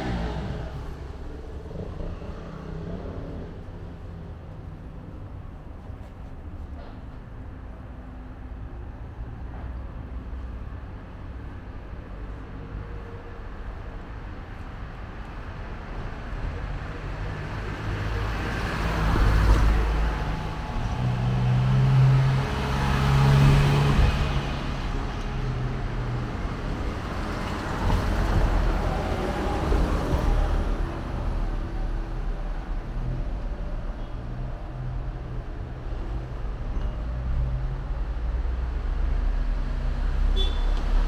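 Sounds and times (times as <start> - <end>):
background traffic: 0.0 - 41.0.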